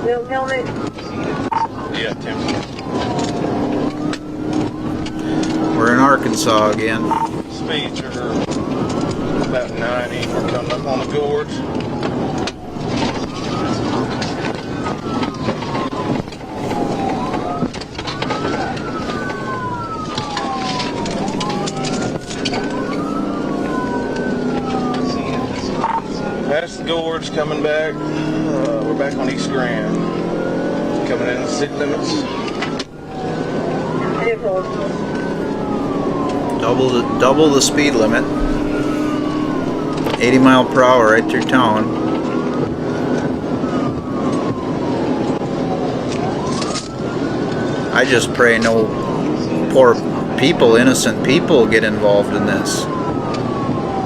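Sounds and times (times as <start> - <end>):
car engine at high speed: 0.0 - 54.0
police siren wailing: 0.0 - 54.0
road noise: 0.0 - 54.0.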